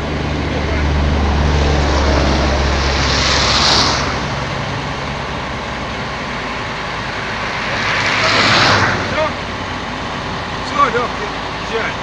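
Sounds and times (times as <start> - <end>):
low hum: 0.0 - 12.0
machine engine running: 0.0 - 12.0.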